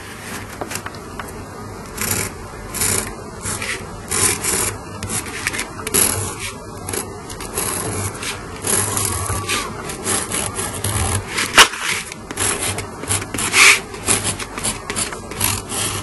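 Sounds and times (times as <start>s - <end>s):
tool scraping on sandpaper: 2.0s - 16.0s.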